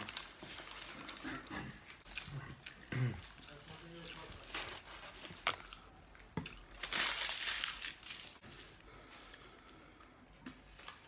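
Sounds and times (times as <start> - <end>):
paper wrapper crinkling: 0.0 - 6.0, 6.6 - 9.8.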